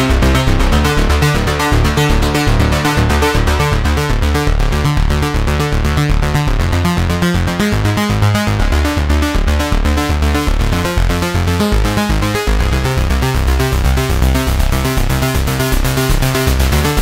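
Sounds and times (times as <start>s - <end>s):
repeating synth notes: 0.0s - 17.0s
synth bass line: 0.0s - 17.0s.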